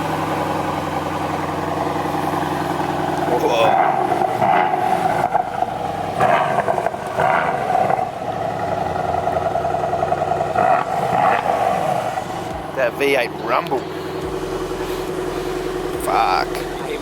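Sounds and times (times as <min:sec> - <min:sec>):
car engine deep rumble: 0:00.0 - 0:17.0.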